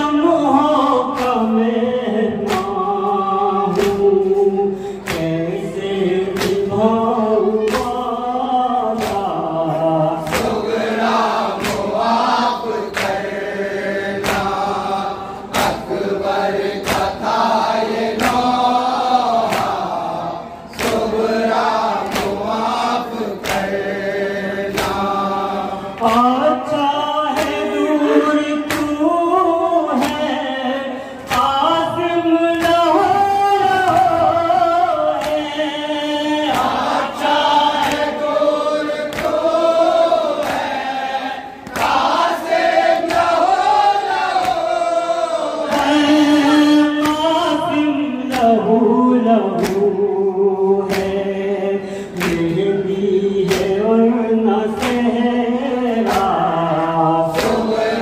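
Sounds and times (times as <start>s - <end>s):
group of mourners singing: 0.0s - 58.0s
male voices chanting lament: 0.0s - 58.0s.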